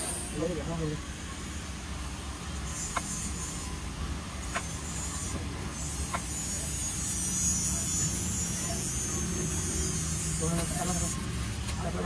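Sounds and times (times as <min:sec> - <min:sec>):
welding arc hiss and buzz: 0:00.0 - 0:12.0.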